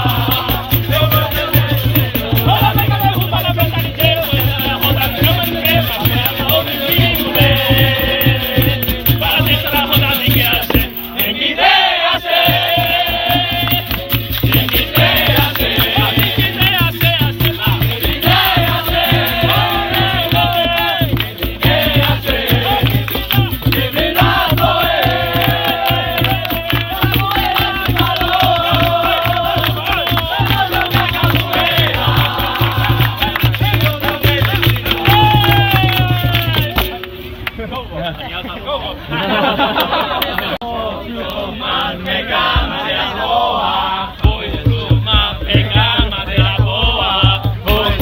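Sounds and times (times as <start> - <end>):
steady driving drum beat: 0.0 - 11.3, 12.3 - 37.0, 44.2 - 48.0
rattling percussion: 0.0 - 11.5, 12.2 - 37.2, 44.3 - 48.0
group of voices singing: 0.0 - 36.8, 39.3 - 48.0.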